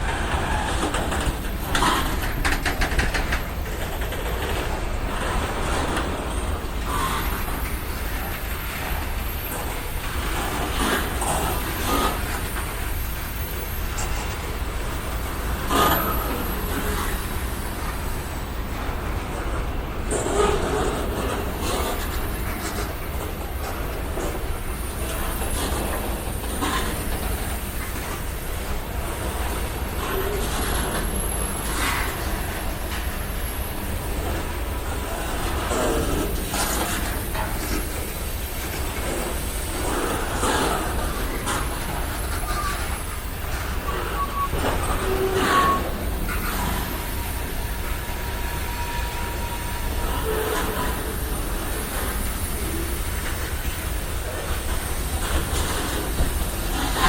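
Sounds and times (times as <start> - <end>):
freight train cars rumbling: 0.0 - 57.0
wheels clacking over rail joints: 0.0 - 57.0.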